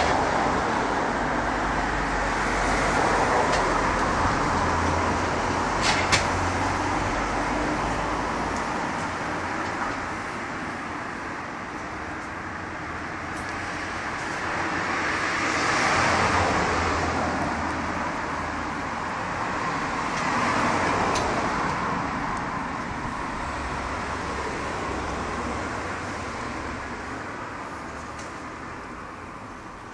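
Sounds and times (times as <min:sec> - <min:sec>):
steady low traffic hum: 0:00.0 - 0:29.9
vehicles passing: 0:00.0 - 0:29.9.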